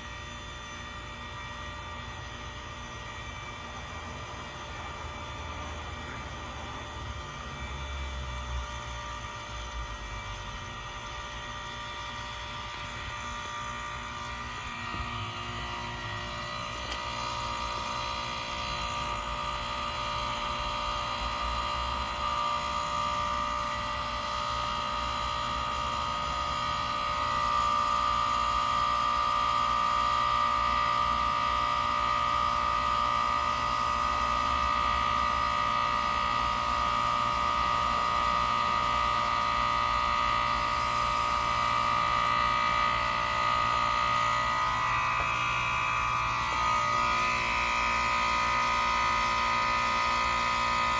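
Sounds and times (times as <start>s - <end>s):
heat pump compressor hum: 0.0s - 50.9s.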